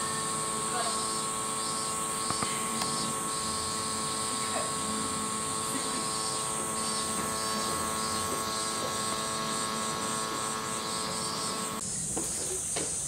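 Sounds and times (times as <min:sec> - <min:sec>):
cicadas buzzing: 0:00.0 - 0:13.0
mechanical hum: 0:00.0 - 0:13.0.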